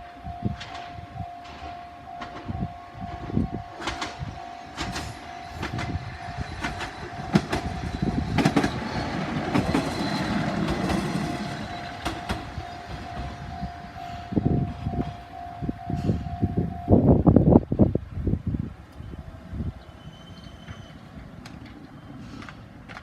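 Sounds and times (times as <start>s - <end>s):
level-crossing warning bell: 0.0s - 17.2s, 18.9s - 21.2s
train rumble: 0.0s - 23.0s
wheels clacking on rail joints: 0.6s - 16.3s, 19.8s - 23.0s.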